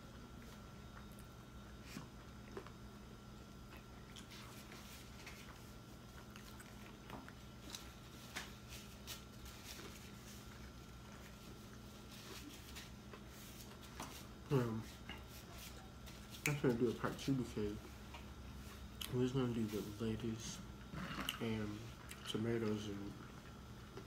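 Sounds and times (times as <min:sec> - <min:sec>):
faint steady hum: 0:00.0 - 0:24.0
people chewing: 0:00.4 - 0:19.9, 0:20.8 - 0:24.0.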